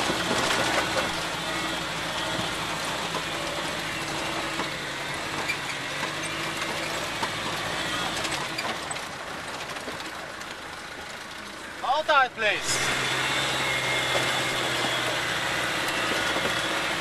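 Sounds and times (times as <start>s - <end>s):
rattles and crunching on stones: 0.0s - 17.0s
vehicle engine running: 0.0s - 17.0s.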